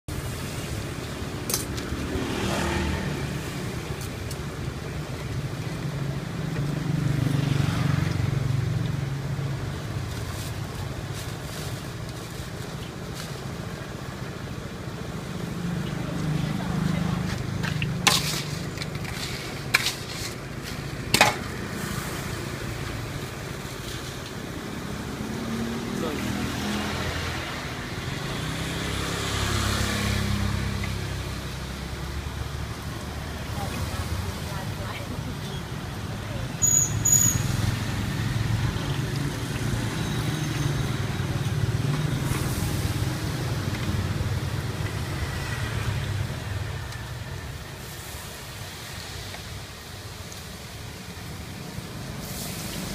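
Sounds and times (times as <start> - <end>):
fritters sizzling in hot oil: 0.1 - 52.9.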